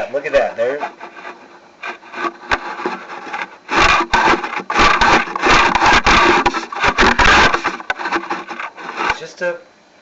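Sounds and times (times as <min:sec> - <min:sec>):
camera cable scraping pipe wall: 0:00.0 - 0:09.5.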